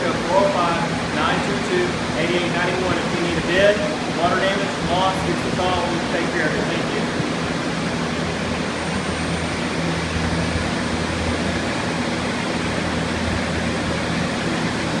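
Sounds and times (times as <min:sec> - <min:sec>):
low motor hum: 0:00.0 - 0:15.0
rush of air from fans: 0:00.0 - 0:15.0.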